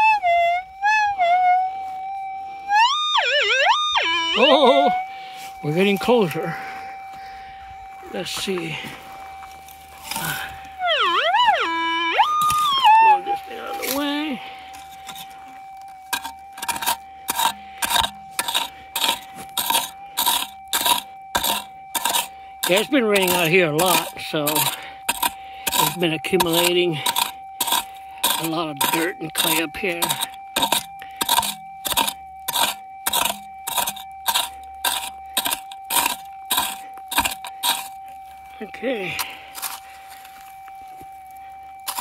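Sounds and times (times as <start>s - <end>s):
metal detector electronic tone: 0.0s - 42.0s.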